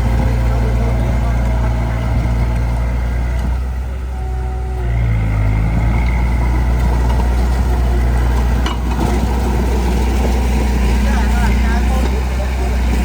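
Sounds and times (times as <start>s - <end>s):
diesel machinery engine hum: 0.0s - 13.0s.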